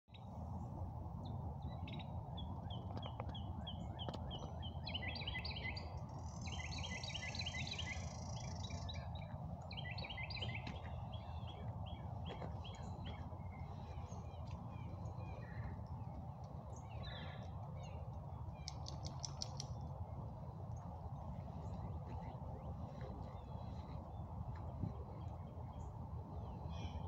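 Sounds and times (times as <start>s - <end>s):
high thin birdsong: 0.1s - 27.0s
songbirds chirping: 0.1s - 27.0s
low background rumble: 0.2s - 27.0s.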